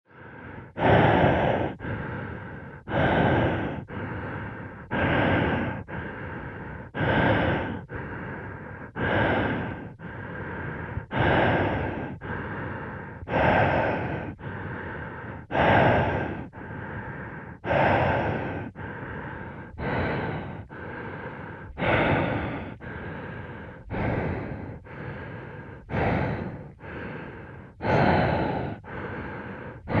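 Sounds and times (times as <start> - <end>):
muffled breathing in helmet: 0.1 - 30.0.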